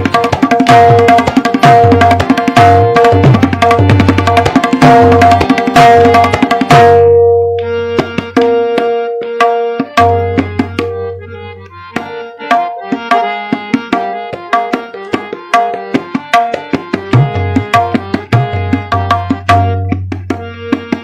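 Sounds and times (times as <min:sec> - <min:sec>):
harmonium melody: 0:00.0 - 0:21.0
tabla playing: 0:00.0 - 0:21.0.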